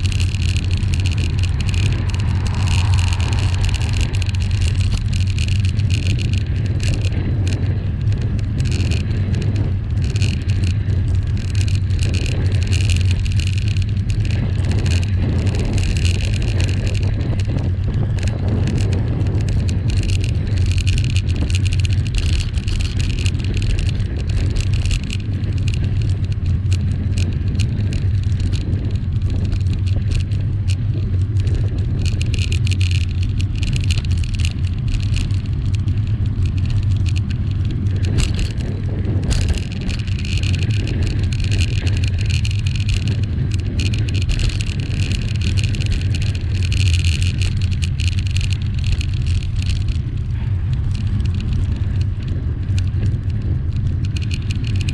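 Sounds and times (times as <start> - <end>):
bicycle tyres on road: 0.0 - 54.9
wind rumble on microphone: 0.0 - 54.9.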